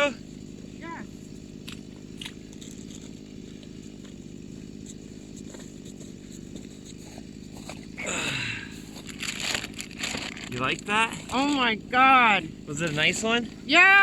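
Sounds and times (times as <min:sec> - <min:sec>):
small engine droning: 0:00.0 - 0:14.0.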